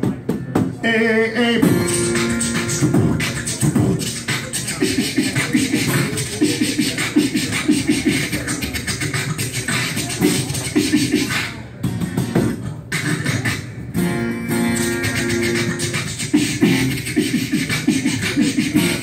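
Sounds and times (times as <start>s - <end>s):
man beatboxing: 0.0s - 19.0s.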